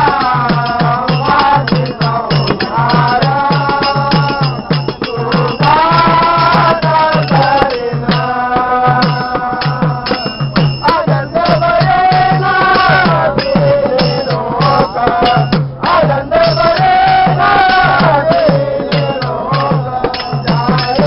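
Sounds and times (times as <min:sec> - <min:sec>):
hand drum beating: 0:00.0 - 0:21.0
men singing together: 0:00.0 - 0:21.0
rattling percussion: 0:00.0 - 0:21.0.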